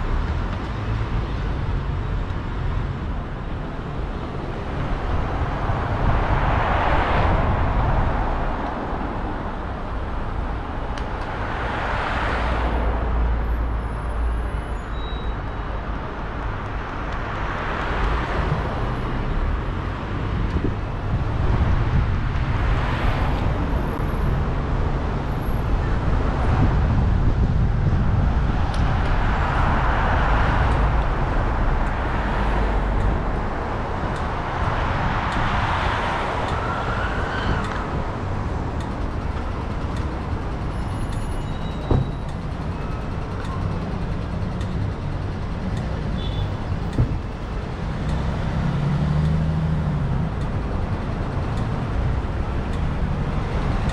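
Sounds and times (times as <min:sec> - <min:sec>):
low road rumble: 0:00.0 - 0:53.9
vehicles passing: 0:00.0 - 0:53.9.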